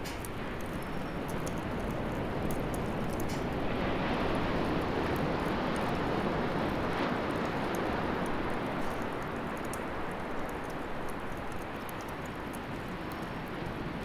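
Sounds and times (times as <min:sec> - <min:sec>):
fire crackling and popping: 0:00.1 - 0:14.0.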